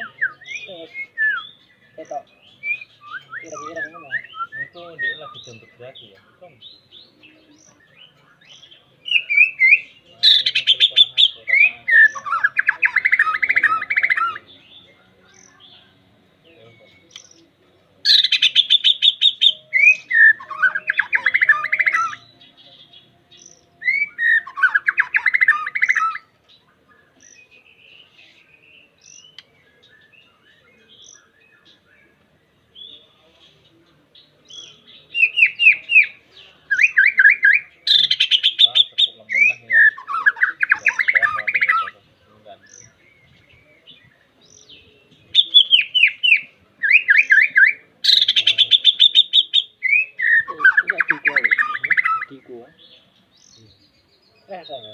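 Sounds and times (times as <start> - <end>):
bird singing trills: 0.0 - 54.9
faint bird calls: 0.0 - 54.9.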